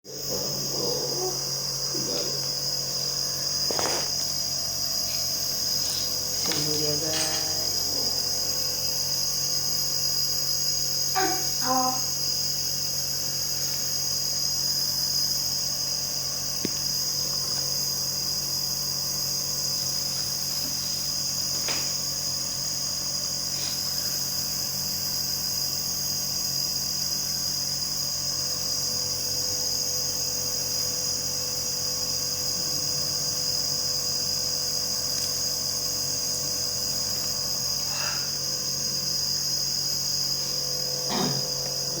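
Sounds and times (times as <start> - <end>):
nebulizer compressor running: 0.1 - 42.0.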